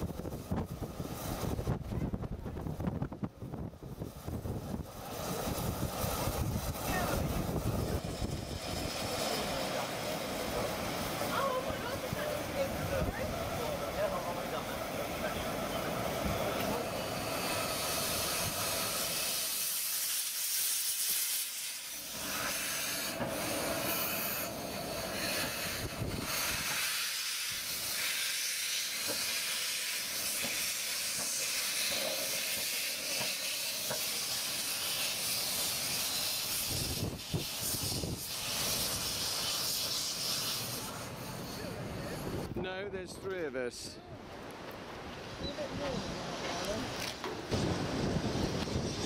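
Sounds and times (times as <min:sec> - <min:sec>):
steam locomotive hissing: 0:00.0 - 0:43.8, 0:45.3 - 0:49.0.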